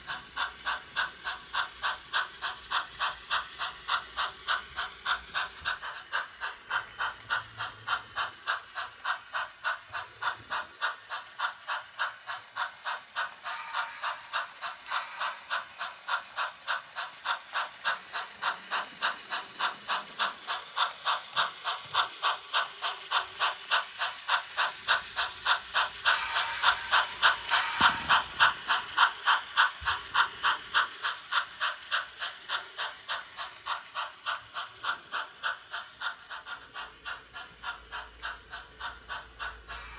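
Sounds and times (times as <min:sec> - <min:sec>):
model steam locomotive chuffing: 0:00.0 - 0:39.9
steam hiss: 0:00.0 - 0:39.9.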